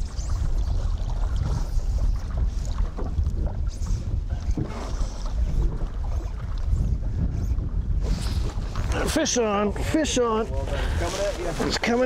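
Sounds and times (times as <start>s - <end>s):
water lapping around boat: 0.0s - 12.0s
wind buffeting microphone: 0.0s - 12.0s.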